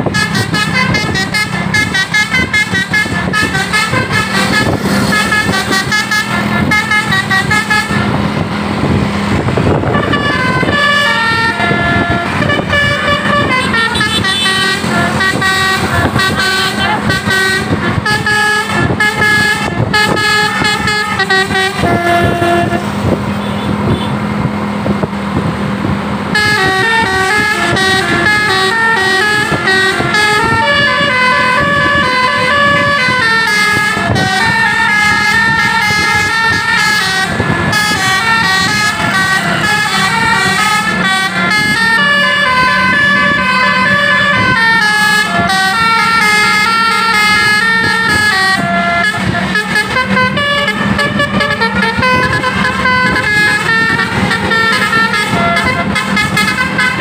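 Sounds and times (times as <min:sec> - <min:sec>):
multi-tone bus horn melody: 0:00.0 - 0:57.0.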